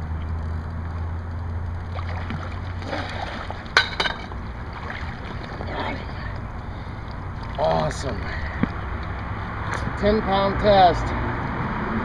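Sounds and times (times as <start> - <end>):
steady low hum: 0.0 - 11.2
river water splashing: 0.2 - 10.4.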